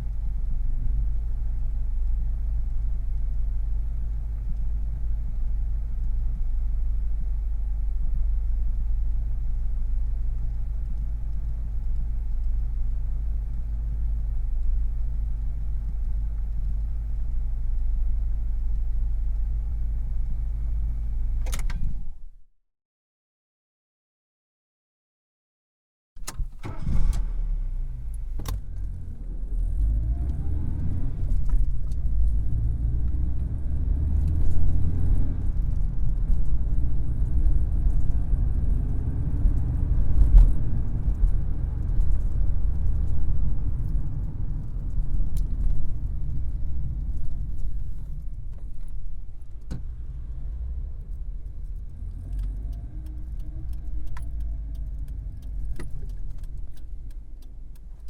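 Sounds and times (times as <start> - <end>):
car engine rumbling: 0.0 - 22.4, 26.2 - 58.0.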